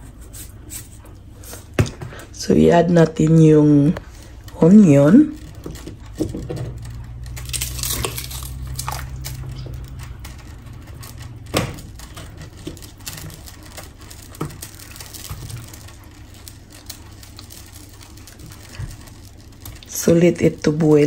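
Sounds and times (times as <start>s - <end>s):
low hum: 3.0s - 21.0s.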